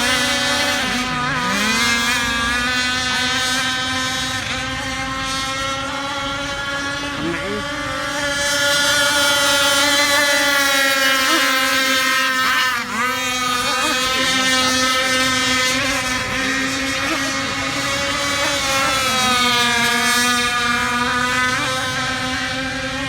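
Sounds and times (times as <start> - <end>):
model boat motor running: 0.0 - 23.0.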